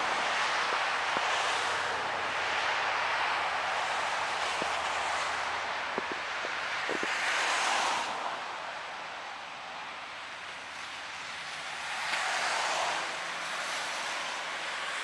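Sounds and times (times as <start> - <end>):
tyre hiss on wet road: 0.0 - 15.0.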